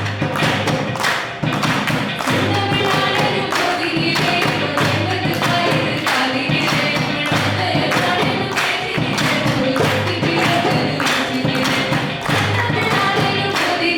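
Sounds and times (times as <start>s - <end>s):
hand percussion beat: 0.0s - 13.9s
voices singing together: 0.0s - 13.9s.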